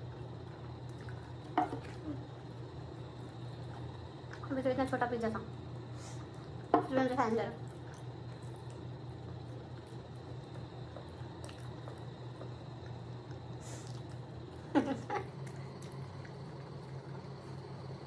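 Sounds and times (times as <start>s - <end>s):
faint chewing: 0.0s - 4.6s, 6.0s - 18.0s
steady low hum: 0.0s - 18.0s.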